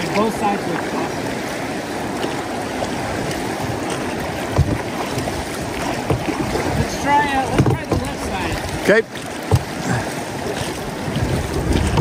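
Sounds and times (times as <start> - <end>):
river current rushing and lapping: 0.0 - 12.0
low knocks on boat: 2.2 - 12.0.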